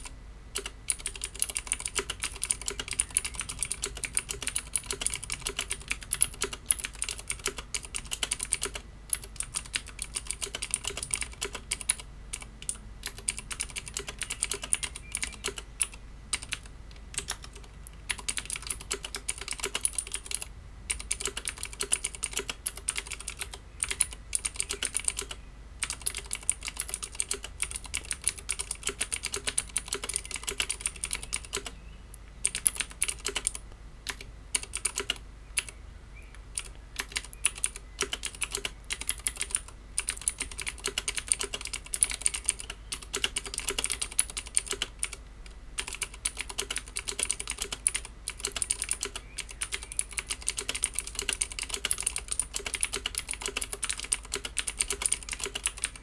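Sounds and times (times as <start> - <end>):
clicky keyboard typing: 0.0 - 31.8, 32.4 - 56.0.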